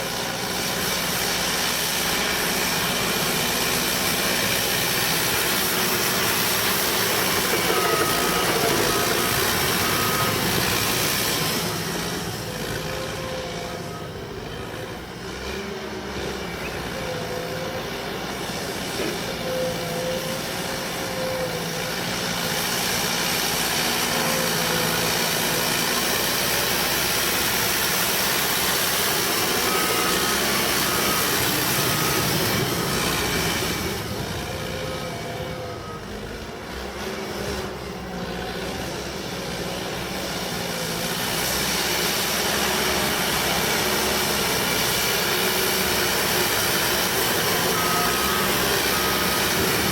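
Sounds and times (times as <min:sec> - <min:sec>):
bulldozer diesel engine whining: 0:00.0 - 0:49.9.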